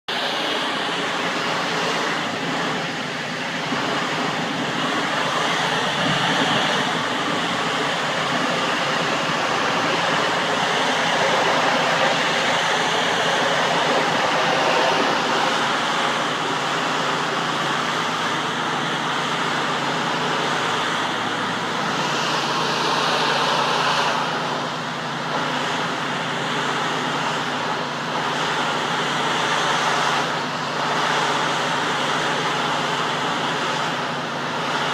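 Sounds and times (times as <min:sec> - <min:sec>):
high-pressure water spray hissing: 0:00.1 - 0:34.9
pressure washer motor hum: 0:00.1 - 0:34.9.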